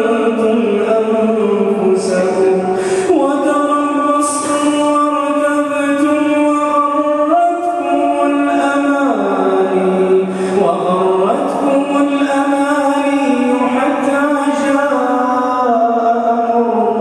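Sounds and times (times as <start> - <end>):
man reciting melodically over microphone: 0.0 - 17.0.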